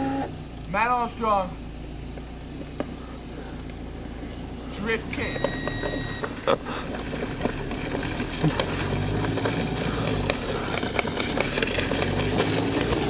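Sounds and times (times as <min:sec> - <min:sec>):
small wheels crackling on snow: 0:00.0 - 0:13.0
vehicle engine humming: 0:00.0 - 0:13.0.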